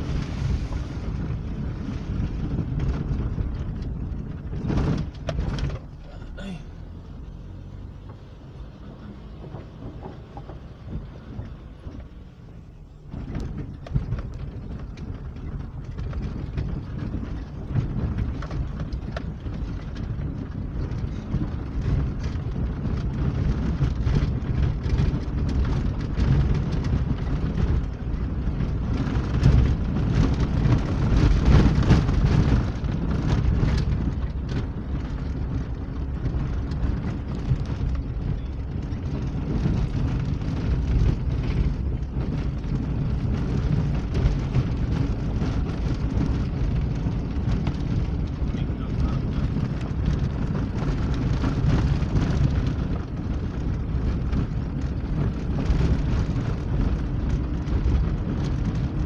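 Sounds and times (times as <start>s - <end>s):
stones crackling under tyres: 0.0s - 59.0s
vehicle engine and tyre rumble: 0.0s - 59.0s.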